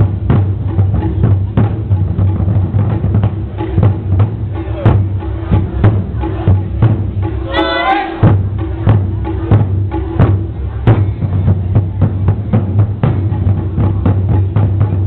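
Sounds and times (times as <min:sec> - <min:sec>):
taiko drum strikes: 0:00.0 - 0:15.0.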